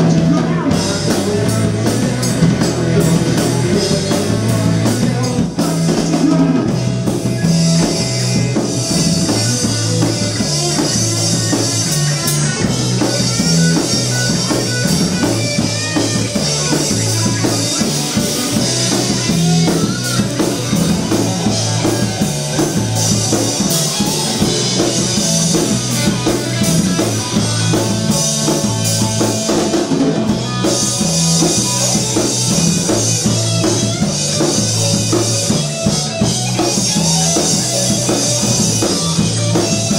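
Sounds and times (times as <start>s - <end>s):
drum kit: 0.0s - 39.9s
electric guitar: 0.0s - 39.9s
pulsing bass guitar: 0.0s - 39.9s.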